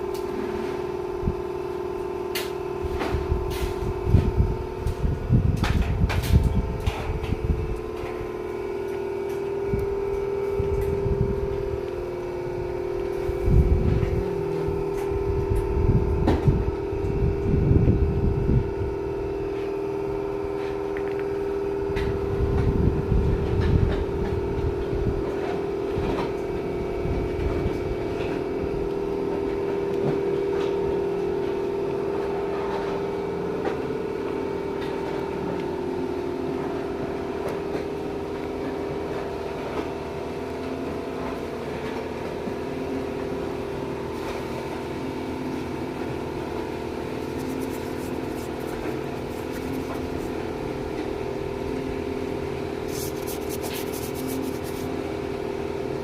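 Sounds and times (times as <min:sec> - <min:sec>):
air compressor humming: 0:00.0 - 0:56.0.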